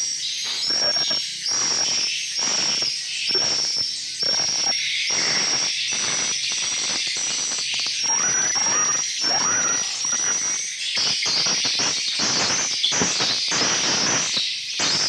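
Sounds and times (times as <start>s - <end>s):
swiftlets chirping: 0.5s - 13.5s.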